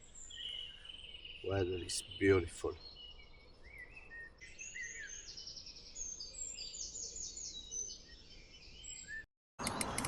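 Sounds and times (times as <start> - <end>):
faint outdoor background noise: 0.0 - 10.0
small songbirds singing: 0.0 - 10.0.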